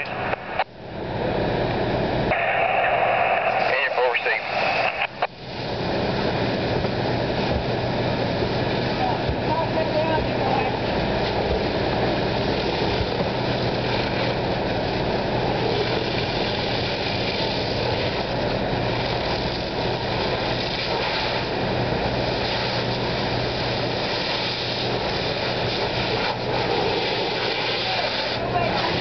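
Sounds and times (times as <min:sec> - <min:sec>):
engine drone: 0:00.0 - 0:29.0.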